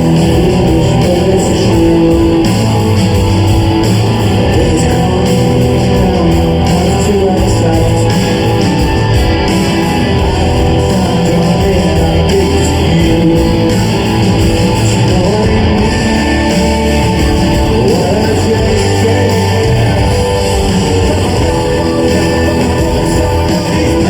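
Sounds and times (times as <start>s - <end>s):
rock band playing live: 0.0s - 24.0s
strummed electric guitar: 0.0s - 24.0s.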